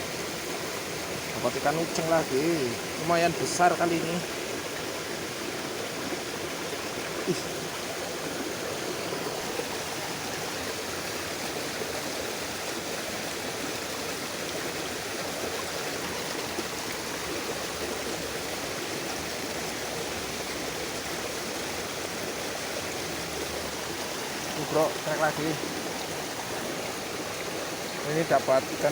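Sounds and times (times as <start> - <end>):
water flowing in a stream: 0.0 - 28.9.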